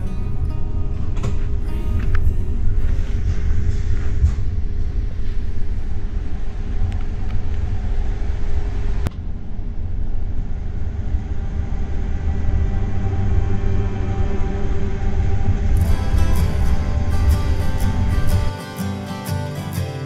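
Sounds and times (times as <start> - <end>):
moving train rumble: 0.0 - 20.0.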